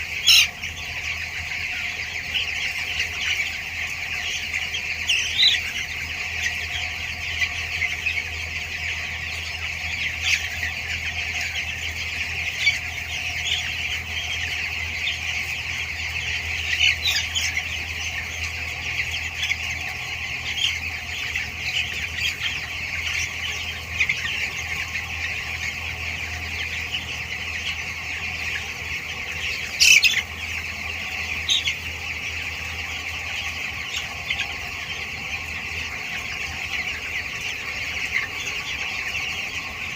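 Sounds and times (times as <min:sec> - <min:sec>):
chicks peeping in chorus: 0:00.0 - 0:39.9.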